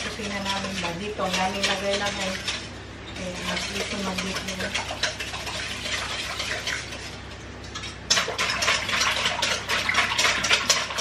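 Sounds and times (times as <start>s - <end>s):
utensil scraping metal bowl: 0.0s - 7.2s, 7.8s - 11.0s.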